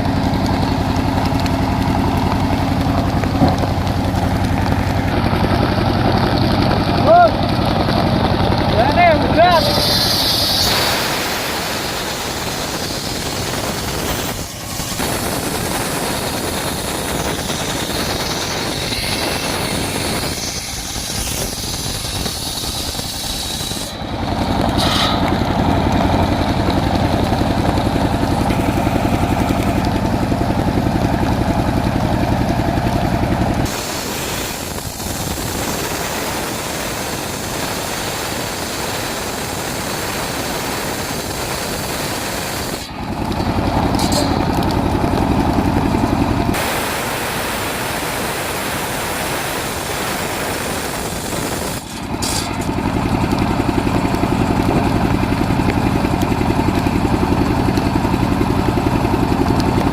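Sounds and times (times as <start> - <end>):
circular saw engine running: 0.0 - 59.9
heavy rain hiss: 0.0 - 59.9.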